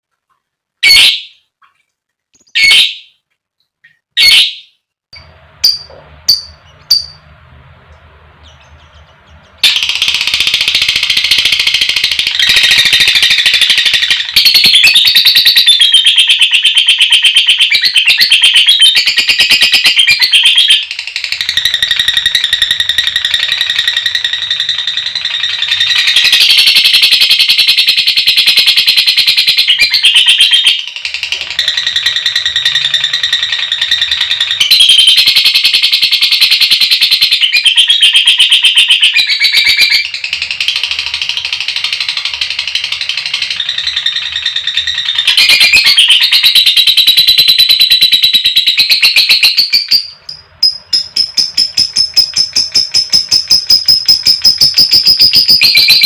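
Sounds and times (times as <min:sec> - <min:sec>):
lovebird chirps: 0:02.4 - 0:07.3, 0:08.4 - 0:56.0
lovebird trilling chatter: 0:05.6 - 0:07.2, 0:08.4 - 0:56.0.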